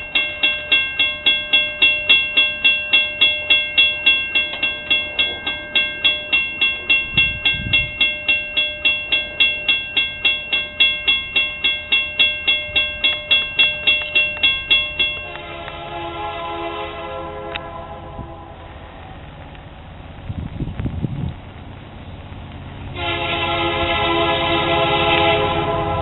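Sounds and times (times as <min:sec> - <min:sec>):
railroad crossing bell ringing: 0:00.0 - 0:19.5, 0:22.8 - 0:26.0.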